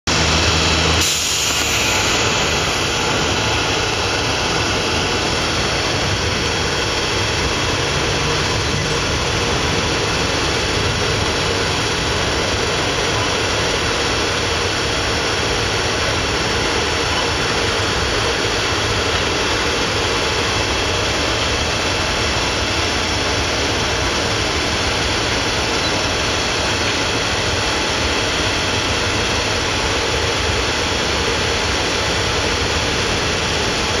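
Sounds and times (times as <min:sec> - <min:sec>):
train wheels rolling on rails: 0:00.1 - 0:34.0.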